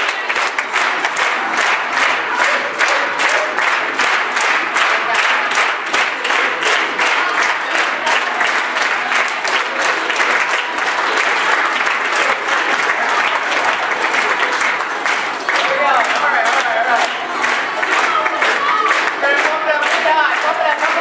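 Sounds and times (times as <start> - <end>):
audience clapping in time: 0.0 - 21.0
crowd noise and voices: 0.0 - 21.0.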